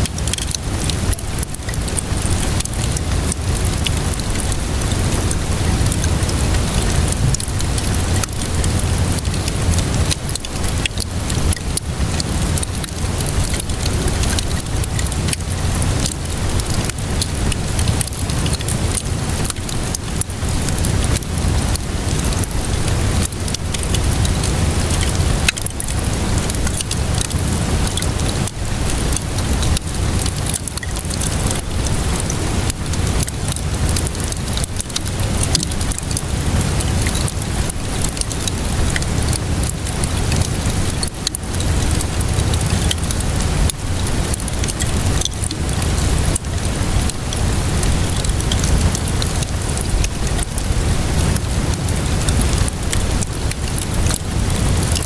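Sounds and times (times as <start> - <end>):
fire crackling and popping: 0.0 - 55.0
rainfall hiss: 0.0 - 55.0.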